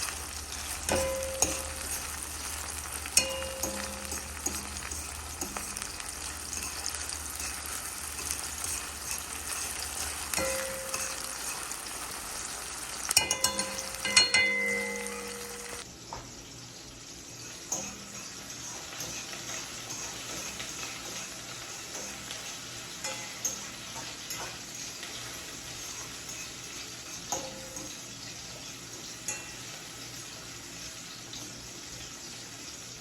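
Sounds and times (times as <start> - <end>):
metal utensil clinking on pan: 0.0 - 15.8, 17.7 - 28.0, 28.6 - 29.8
food sizzling in a frying pan: 0.0 - 33.0.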